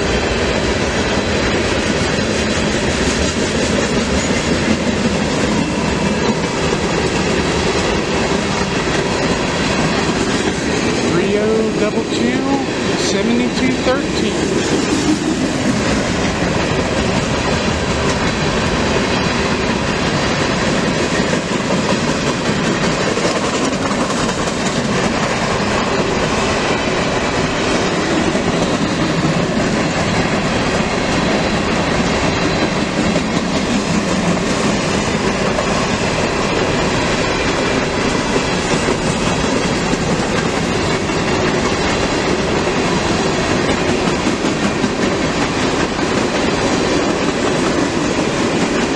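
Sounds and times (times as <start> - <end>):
train wheels clattering over rail joints: 0.0 - 11.2, 14.4 - 48.9.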